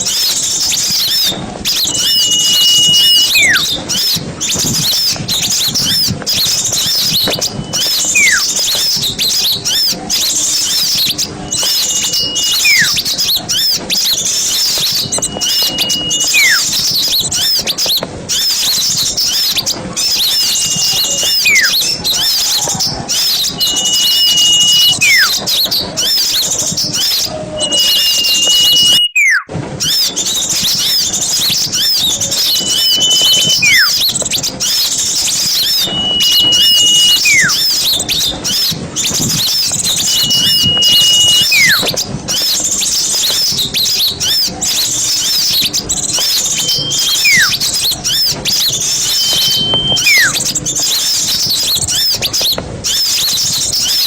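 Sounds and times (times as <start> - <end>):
songbirds chattering: 0.0 - 54.0
whistled bird note with falling slur: 0.1 - 52.2.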